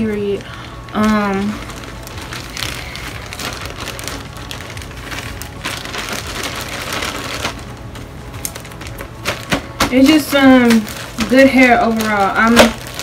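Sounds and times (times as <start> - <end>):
crackling rustle: 0.0 - 13.0.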